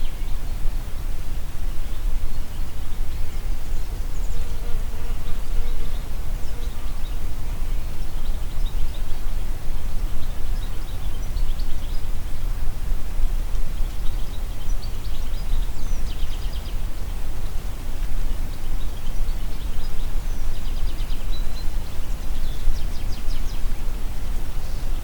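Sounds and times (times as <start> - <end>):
wind through trees: 0.0 - 25.0.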